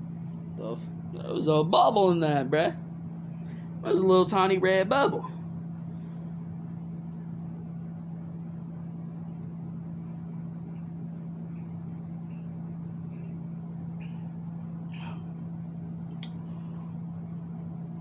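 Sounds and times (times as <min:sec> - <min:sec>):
air conditioner humming: 0:00.0 - 0:18.0.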